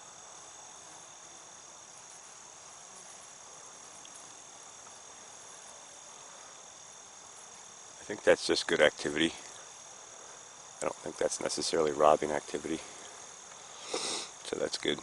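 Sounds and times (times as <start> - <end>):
high-pitched insect trilling: 0.0 - 15.0
soft outdoor hiss: 0.0 - 15.0.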